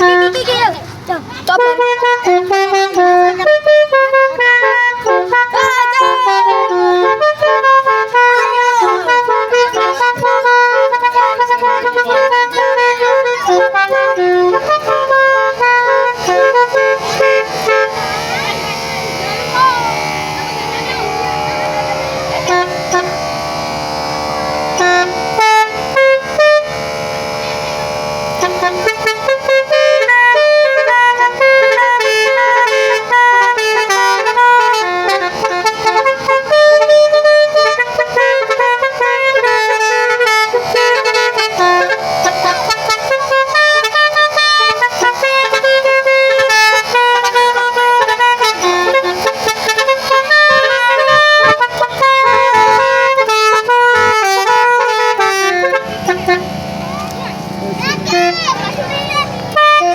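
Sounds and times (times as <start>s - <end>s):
musical truck horns: 0.0s - 59.9s.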